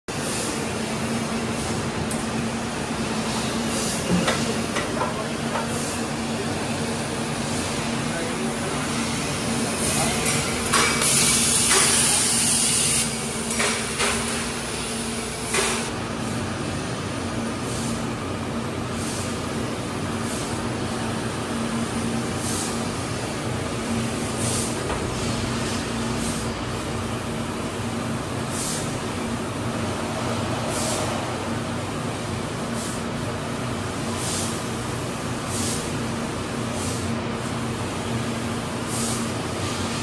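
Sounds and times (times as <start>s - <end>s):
factory machinery hum: 0.1s - 40.0s.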